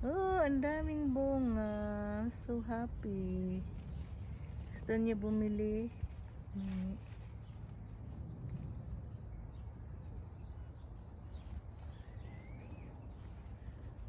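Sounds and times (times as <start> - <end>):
low steady rumble: 0.0 - 14.0
small birds chirping: 0.4 - 14.0.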